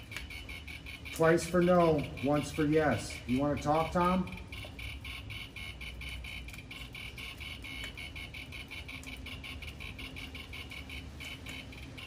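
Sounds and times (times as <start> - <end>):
high electronic chirps: 0.0 - 12.0.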